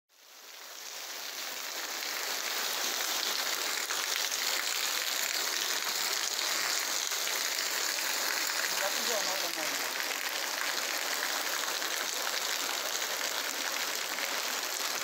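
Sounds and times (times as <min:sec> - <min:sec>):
heavy rain falling: 0:00.2 - 0:15.0.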